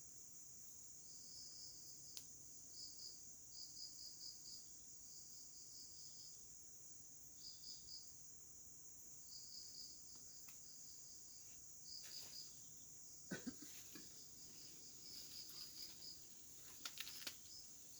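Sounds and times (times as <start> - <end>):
insects buzzing: 0.0 - 17.9
quick insect chirps: 0.6 - 17.9.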